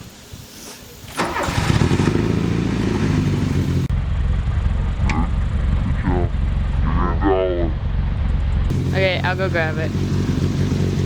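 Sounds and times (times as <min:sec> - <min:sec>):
car engine starting and idling: 0:01.1 - 0:11.0.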